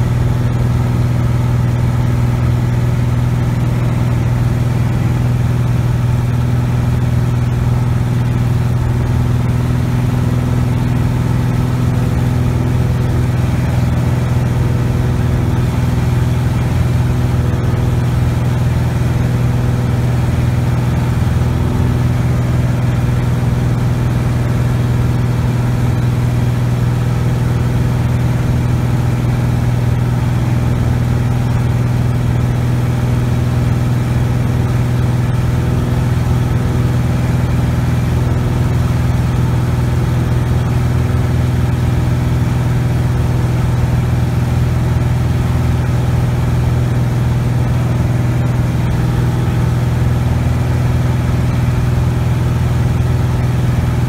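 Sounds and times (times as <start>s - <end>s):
aircraft engine and propeller humming: 0.0s - 54.0s.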